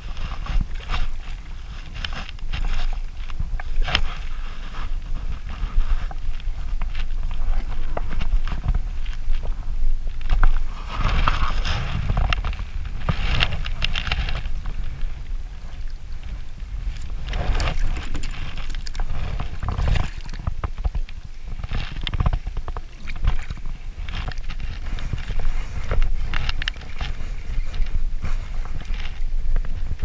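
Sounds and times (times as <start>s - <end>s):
water splashing against kayak hull: 0.0s - 30.0s
wind buffeting microphone: 0.0s - 30.0s.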